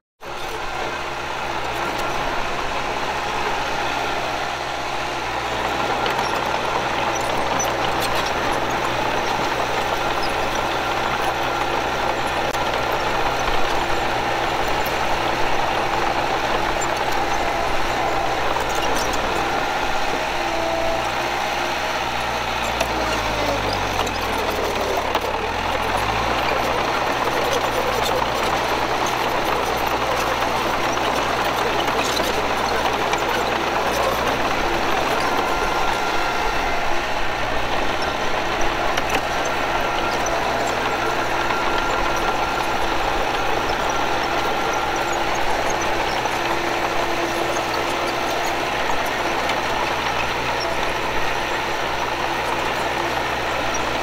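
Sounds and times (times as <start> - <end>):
heavy machinery diesel engine running: 0.2 - 54.0.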